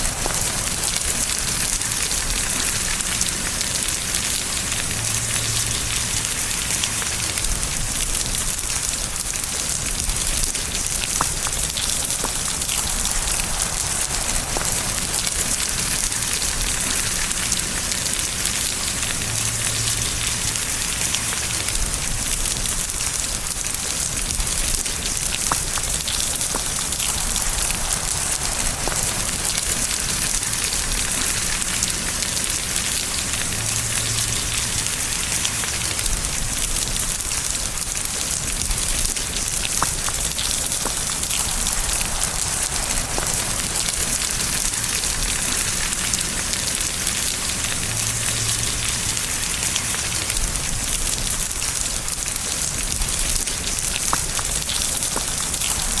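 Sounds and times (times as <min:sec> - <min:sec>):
rain hissing on a surface: 0:00.0 - 0:56.0
raindrop ticks: 0:00.0 - 0:56.0.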